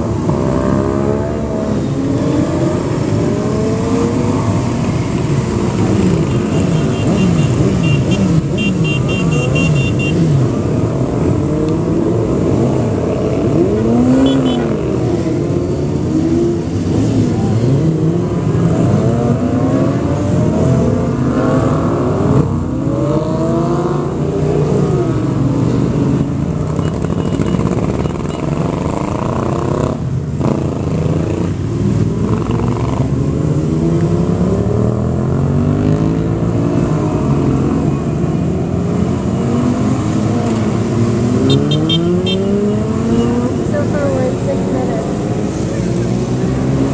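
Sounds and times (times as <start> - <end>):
motorcycle engines passing: 0.0 - 46.9.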